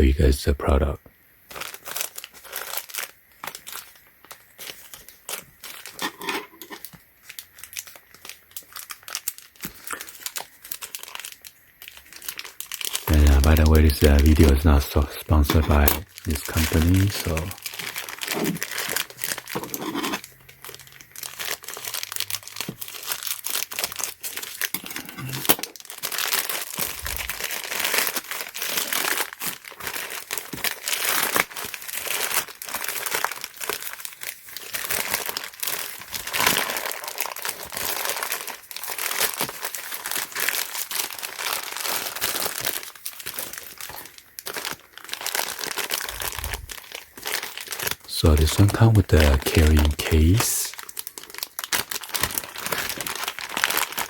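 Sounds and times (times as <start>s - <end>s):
packaging crinkling and rustling: 1.5s - 54.0s.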